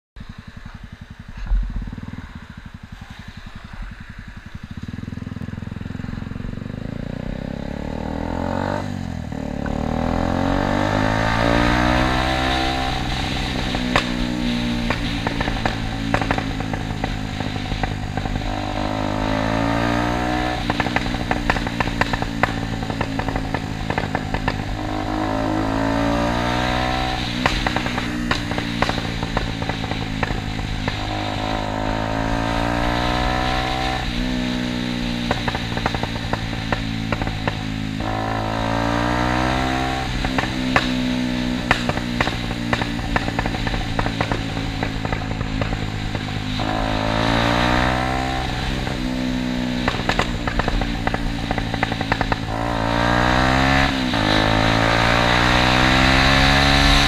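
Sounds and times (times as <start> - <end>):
motorcycle engine revving: 0.0 - 57.0
exhaust pops and crackles: 0.2 - 5.4, 10.7 - 57.0.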